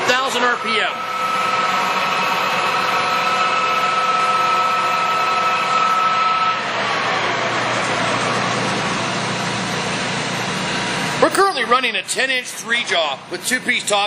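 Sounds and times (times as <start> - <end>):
lathe high whine: 0.0 - 14.0
lathe hum: 0.0 - 14.0.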